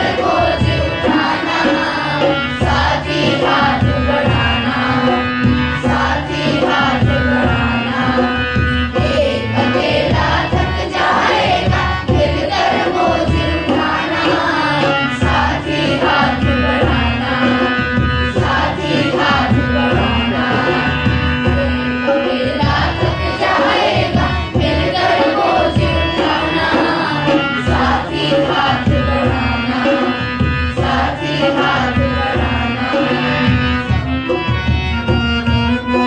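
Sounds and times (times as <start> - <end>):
children singing in unison: 0.0 - 35.2
percussion: 0.0 - 36.0.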